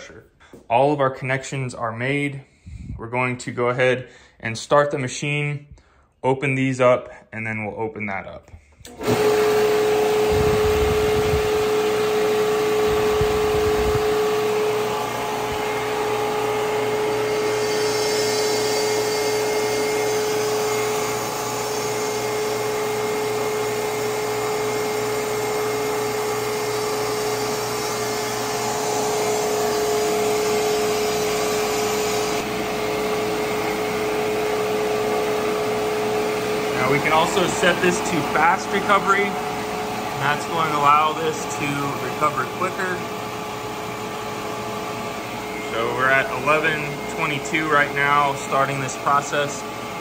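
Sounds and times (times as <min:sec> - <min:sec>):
compressor humming: 0:08.6 - 0:50.0.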